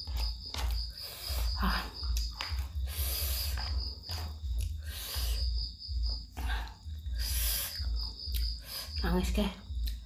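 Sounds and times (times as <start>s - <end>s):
person slurping and chewing noodles: 0.0s - 8.9s.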